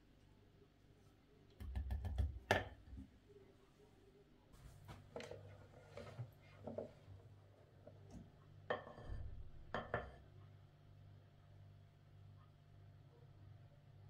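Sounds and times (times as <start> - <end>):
low steady hum: 2.3 - 14.0.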